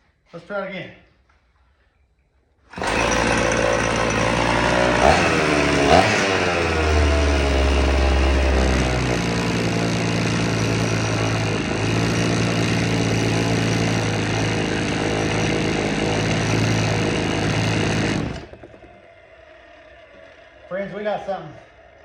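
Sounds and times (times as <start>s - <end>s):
chainsaw engine running: 2.7s - 22.0s.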